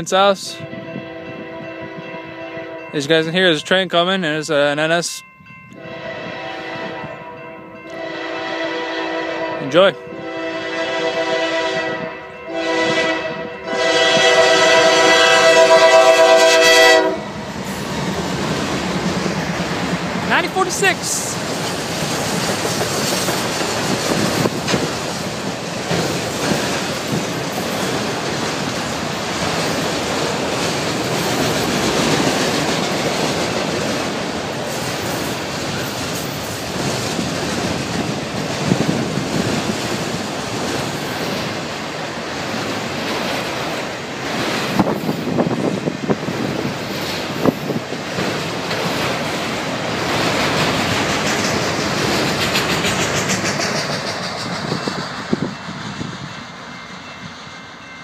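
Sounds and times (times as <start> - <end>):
train wheels rumbling on rail: 5.7 - 58.0.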